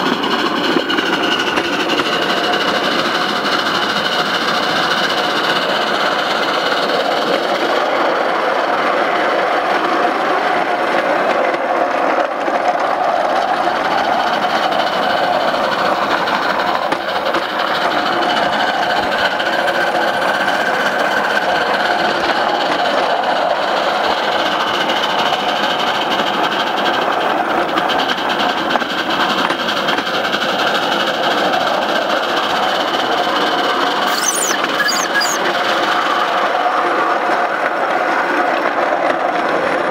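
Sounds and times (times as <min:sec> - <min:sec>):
steam locomotive clattering: 0:00.0 - 0:39.9.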